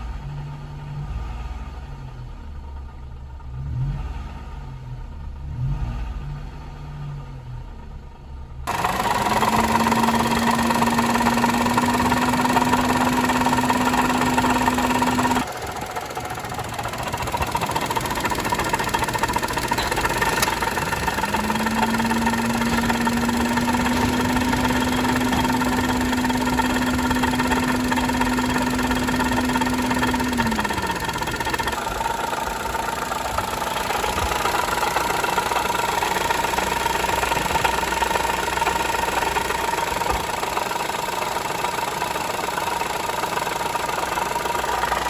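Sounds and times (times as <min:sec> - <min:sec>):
engine hum: 0:00.0 - 0:45.0
engine rattling and clattering: 0:00.0 - 0:45.0.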